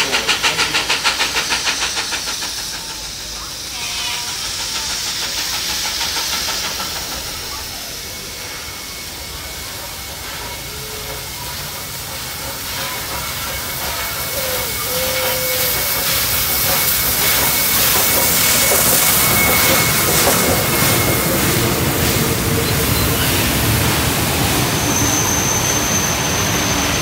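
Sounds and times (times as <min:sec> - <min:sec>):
hissing steam: 0:00.0 - 0:27.0
steam locomotive passing: 0:00.0 - 0:27.0.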